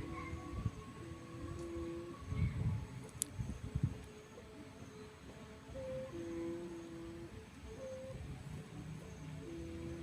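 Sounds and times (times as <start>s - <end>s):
kite hummer droning: 0.0s - 10.0s
low wind rumble: 0.0s - 10.0s.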